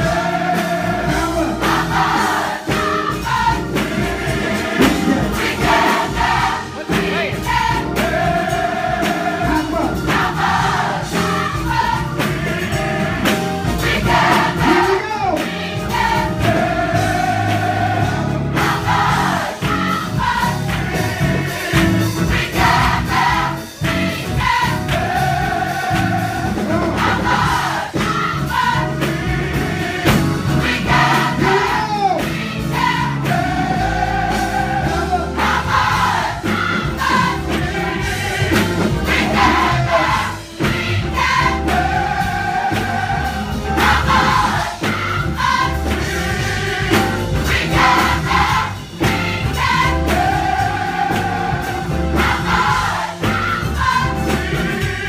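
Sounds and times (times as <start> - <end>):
gospel choir singing: 0.0 - 55.0
live band playing: 0.0 - 55.0.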